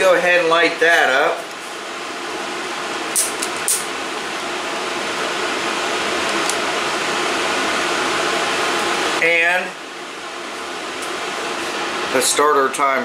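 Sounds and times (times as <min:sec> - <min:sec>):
fan-like background hum: 0:00.0 - 0:13.0.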